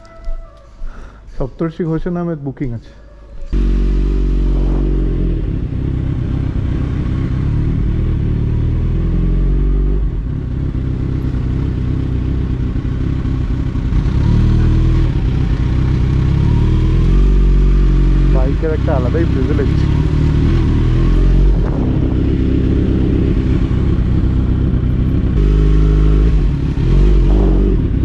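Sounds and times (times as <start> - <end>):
motorcycle engine at low revs: 3.5 - 28.0.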